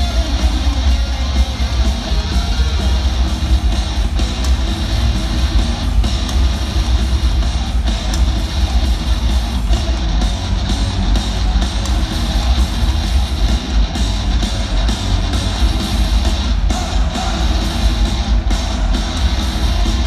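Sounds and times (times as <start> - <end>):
live band music in arena: 0.0 - 20.0.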